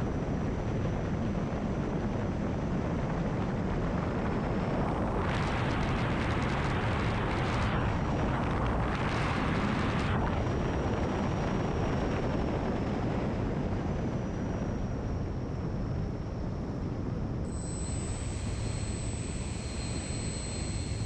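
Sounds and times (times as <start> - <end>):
faint high motor whine: 0.0 - 21.0.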